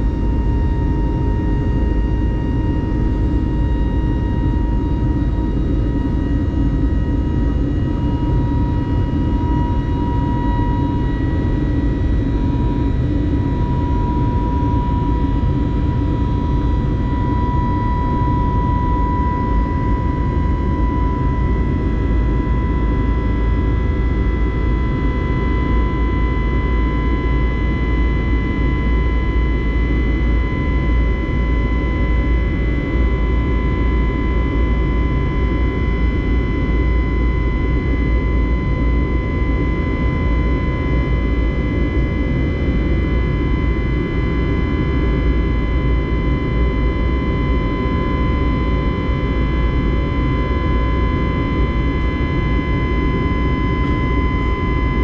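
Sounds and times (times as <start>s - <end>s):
jet engine high whine: 0.0s - 55.0s
jet engines rumbling in cabin: 0.0s - 55.0s.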